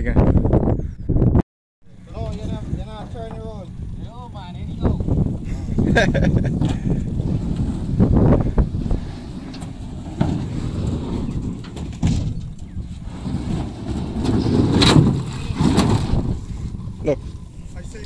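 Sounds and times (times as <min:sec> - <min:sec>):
boat engine rumble: 0:01.9 - 0:18.0.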